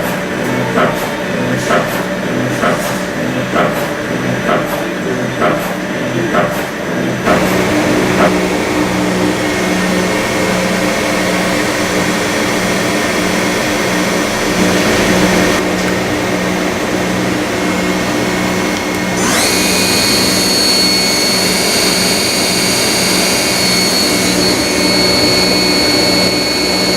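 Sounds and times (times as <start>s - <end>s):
machining centre low hum: 0.0s - 26.9s
spindle whine rising: 0.0s - 26.9s.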